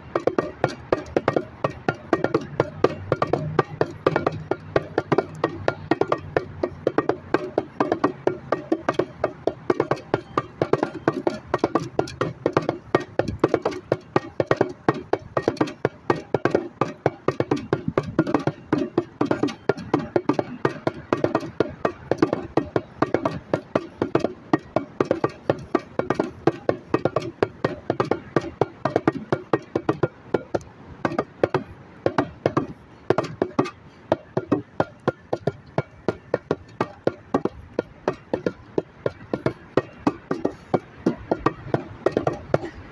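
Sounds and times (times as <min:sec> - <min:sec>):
bongos played by hand: 0:00.0 - 0:42.9.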